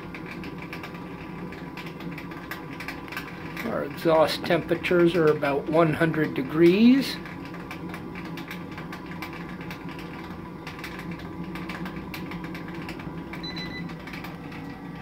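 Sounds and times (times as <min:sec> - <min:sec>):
fan humming: 0:00.0 - 0:15.0
rapid irregular ticking: 0:00.0 - 0:15.0.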